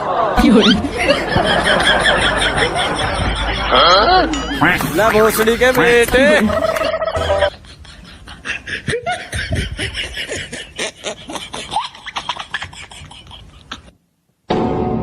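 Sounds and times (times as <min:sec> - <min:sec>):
person laughing: 0:00.4 - 0:05.1, 0:06.1 - 0:13.9.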